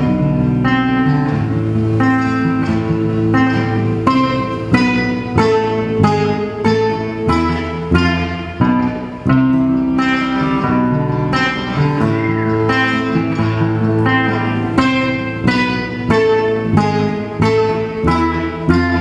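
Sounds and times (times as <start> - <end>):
plucked guitar music: 0.0 - 19.0
sustained bass notes: 0.0 - 19.0.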